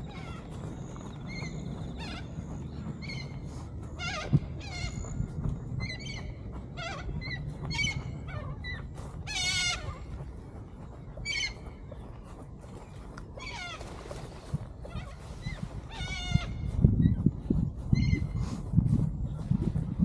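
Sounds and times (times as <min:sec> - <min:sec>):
steady low rumble: 0:00.0 - 0:13.4, 0:14.2 - 0:20.0.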